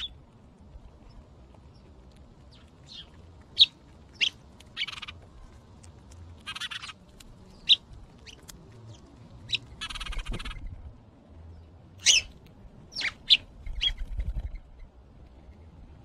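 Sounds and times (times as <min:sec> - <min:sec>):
sparrows chirping: 0:00.0 - 0:00.3, 0:01.0 - 0:05.6, 0:06.4 - 0:10.9, 0:11.5 - 0:15.8.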